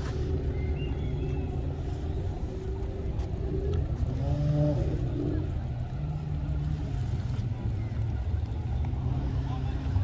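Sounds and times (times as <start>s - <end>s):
engine running with low rumble: 0.0s - 10.0s.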